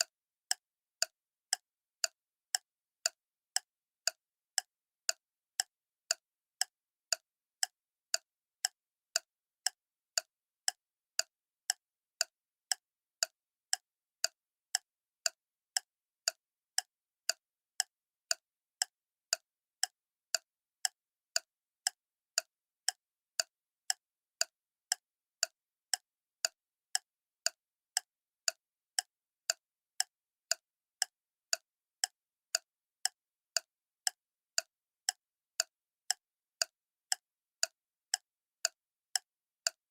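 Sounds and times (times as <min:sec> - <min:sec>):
clock ticking: 0:00.0 - 0:39.8.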